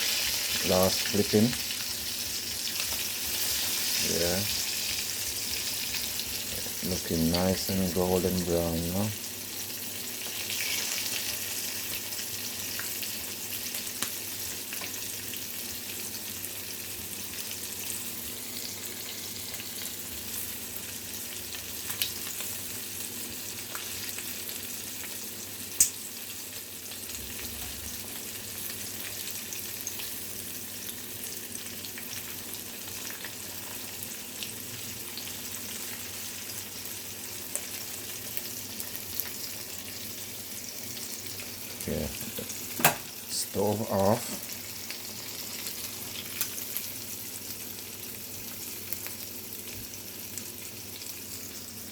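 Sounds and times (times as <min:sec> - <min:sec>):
oil sizzling: 0:00.0 - 0:51.9.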